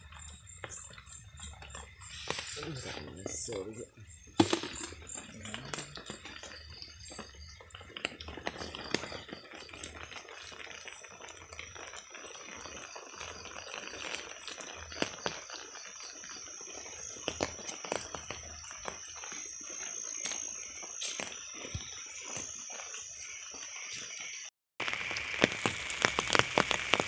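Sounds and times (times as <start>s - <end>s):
high-pitched whine: 0.0s - 27.0s.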